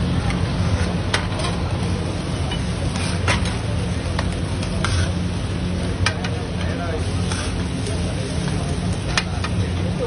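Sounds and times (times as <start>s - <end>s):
metal spatula scraping on griddle: 0.6s - 1.8s, 2.4s - 9.6s.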